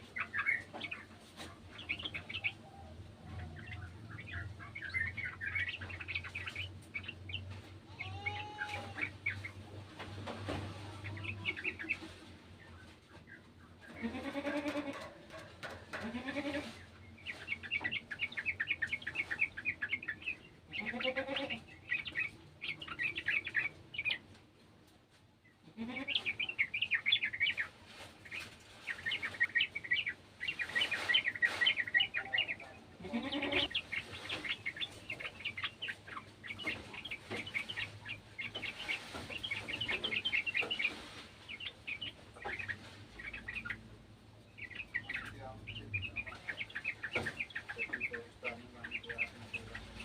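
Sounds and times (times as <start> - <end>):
bulbuls chattering: 0.0 - 50.0.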